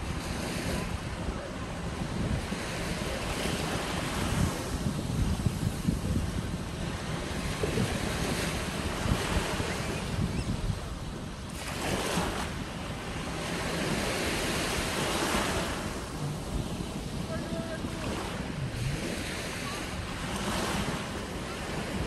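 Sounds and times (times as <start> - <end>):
small waves on sandy shore: 0.0 - 22.0
wind buffeting microphone: 0.0 - 22.0.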